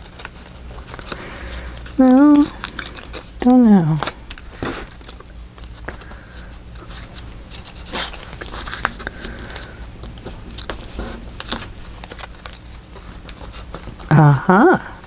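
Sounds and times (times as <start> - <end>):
paper rustling and scraping: 0.0 - 14.1.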